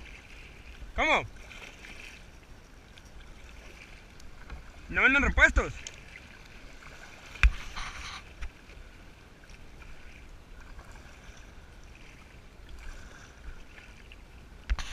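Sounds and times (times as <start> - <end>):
paddle splashing through water: 0.0 - 14.9.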